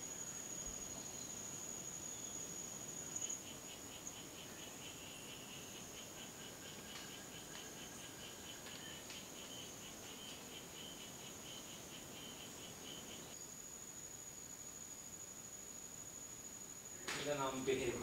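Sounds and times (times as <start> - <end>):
high-pitched insect drone: 0.0 - 18.0
rapid insect chirps: 0.0 - 18.0.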